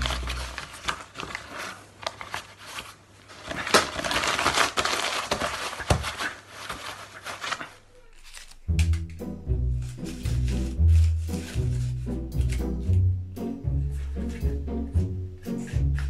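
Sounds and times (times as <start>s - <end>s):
paper crumpling: 0.0s - 13.0s.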